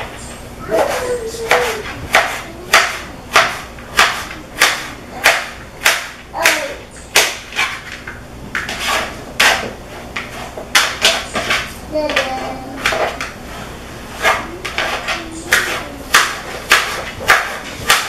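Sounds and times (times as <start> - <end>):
knife chopping on plastic board: 0.7 - 13.4, 14.2 - 18.0.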